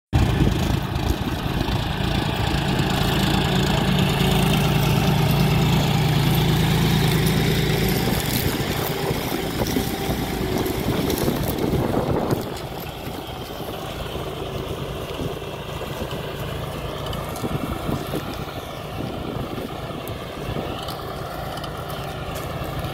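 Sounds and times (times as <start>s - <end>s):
tractor diesel engine running: 0.1s - 22.9s.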